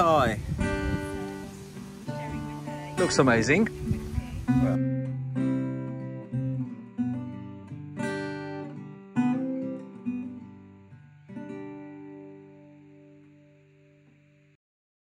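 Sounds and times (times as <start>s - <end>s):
acoustic guitar chords: 0.0s - 14.6s.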